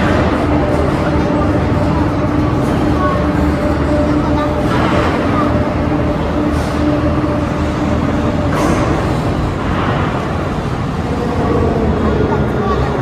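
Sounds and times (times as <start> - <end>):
overhead crane humming: 0.0 - 13.0.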